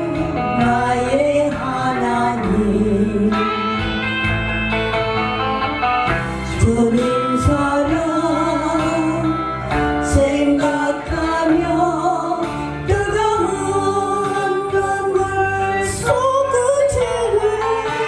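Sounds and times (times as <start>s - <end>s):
instrumental accompaniment with beat: 0.0s - 18.0s.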